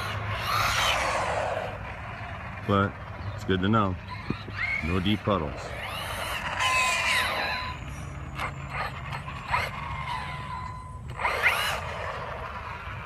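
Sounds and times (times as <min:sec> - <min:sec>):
drivetrain gear chatter: 0:00.0 - 0:13.0
electric motor whining: 0:00.0 - 0:13.0.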